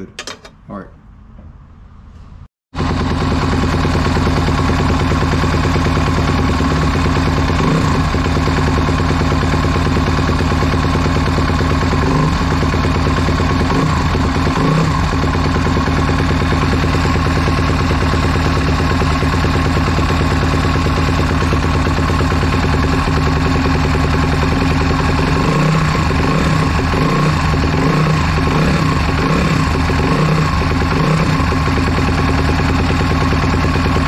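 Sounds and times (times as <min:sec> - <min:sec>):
motorcycle engine idling: 0:02.8 - 0:34.0.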